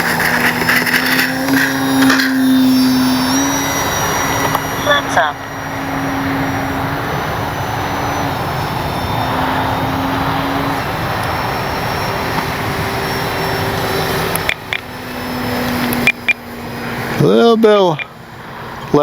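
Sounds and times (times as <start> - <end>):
model plane motor drone: 0.0 - 19.0.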